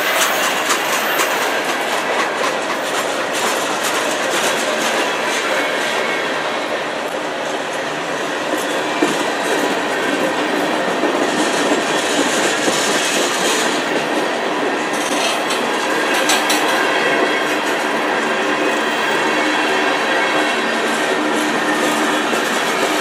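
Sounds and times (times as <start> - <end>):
clickety-clack over rail joints: 0.0 - 23.0
steel wheels rumbling on rail: 0.0 - 23.0.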